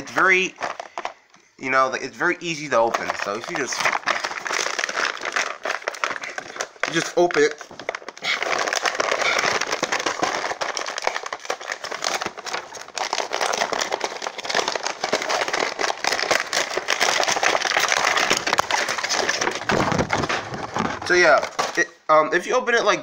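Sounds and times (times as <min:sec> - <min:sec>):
plastic packaging crinkling: 0:00.0 - 0:21.9.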